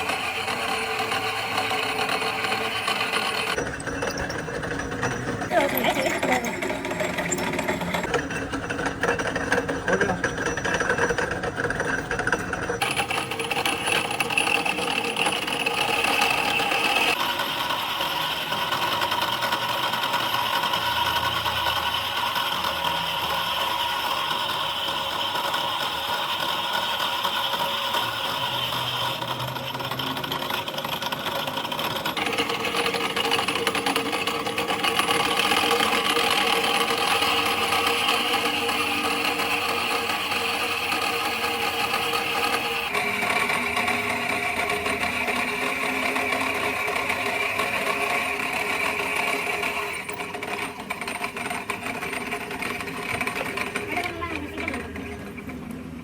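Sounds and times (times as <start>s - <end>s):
workshop machinery running: 0.0s - 56.0s.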